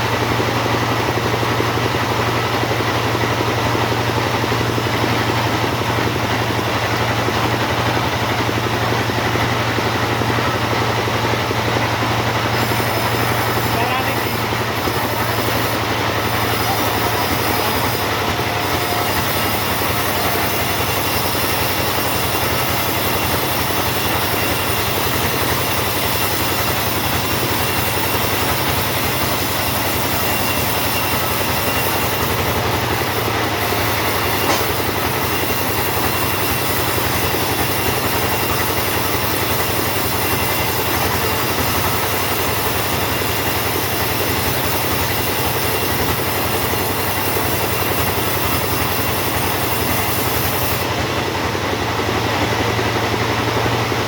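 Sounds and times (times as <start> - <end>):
chainsaw sawing wood: 0.0 - 54.0.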